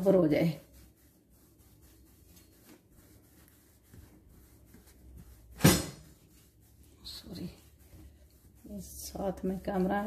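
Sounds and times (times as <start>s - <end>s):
palms rubbing dough on wood: 0.0s - 10.0s.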